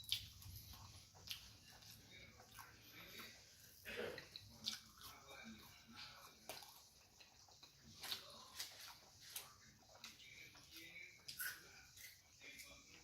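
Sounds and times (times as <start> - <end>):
chewing and lip smacking: 0.0 - 13.0.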